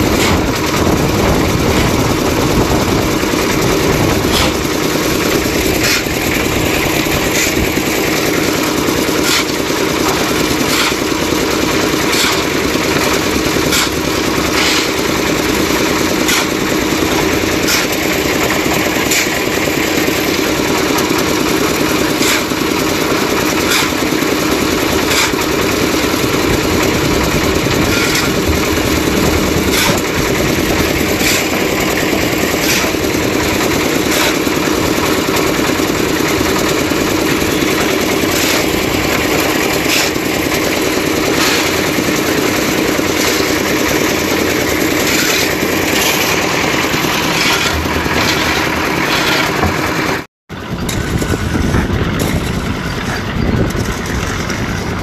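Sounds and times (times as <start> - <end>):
concrete mixer drone: 0.0 - 55.0.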